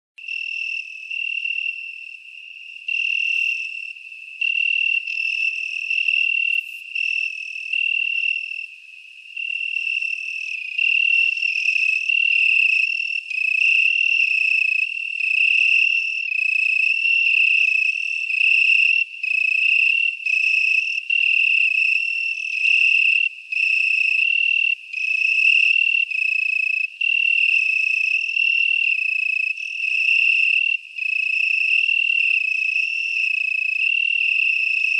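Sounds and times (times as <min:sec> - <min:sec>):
cricket trilling: 0:00.2 - 0:34.9.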